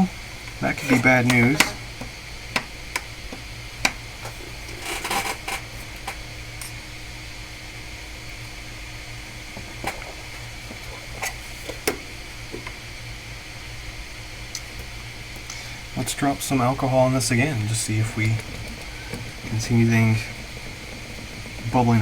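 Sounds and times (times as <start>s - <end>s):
background hiss: 0.0s - 22.0s
low electrical hum: 0.0s - 22.0s.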